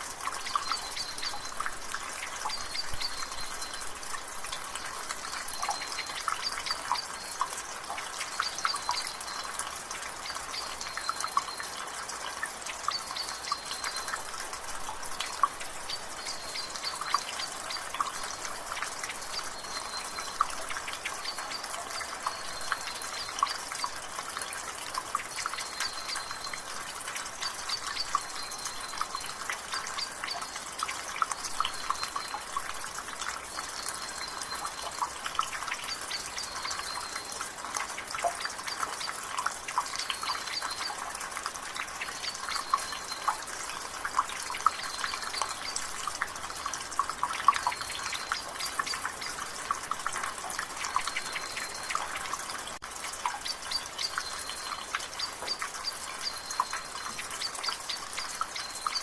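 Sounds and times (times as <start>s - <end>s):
rainwater dripping from gutter: 0.0s - 59.0s
steady rain: 0.0s - 59.0s.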